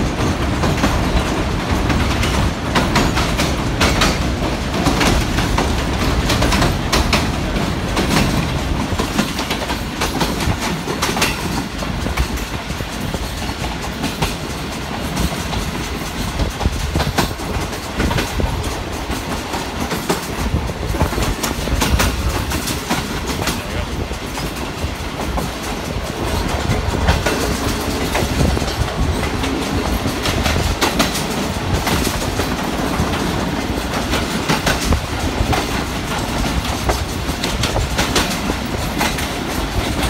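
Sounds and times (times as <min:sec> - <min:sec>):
train coach rumble: 0:00.0 - 0:40.0
wheels clacking over rail joints: 0:00.0 - 0:40.0.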